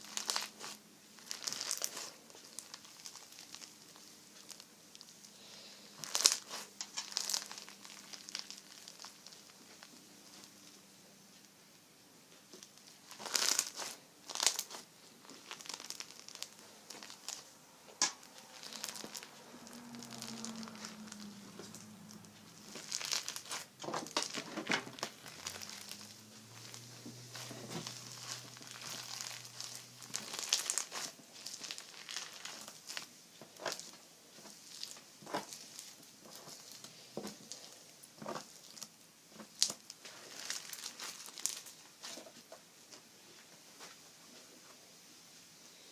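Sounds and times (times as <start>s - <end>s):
slime squeezed by hand crackling: 0.0s - 5.4s, 6.0s - 10.7s, 12.6s - 42.2s.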